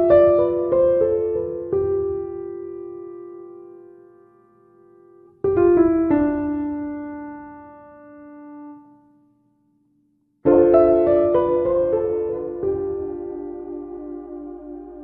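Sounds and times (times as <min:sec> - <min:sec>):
piano music: 0:00.0 - 0:09.1, 0:10.4 - 0:15.0.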